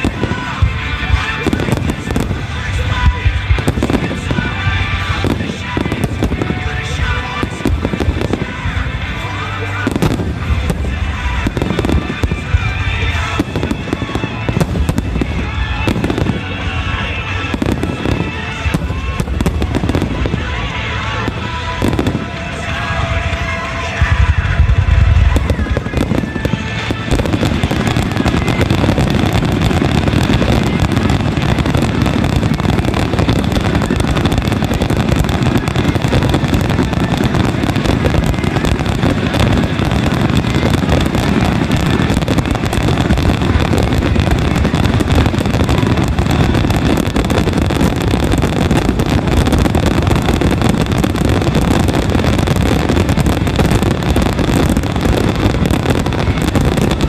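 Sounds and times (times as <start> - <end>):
fireworks booming and crackling: 0.0 - 57.0
music playing: 0.0 - 57.0.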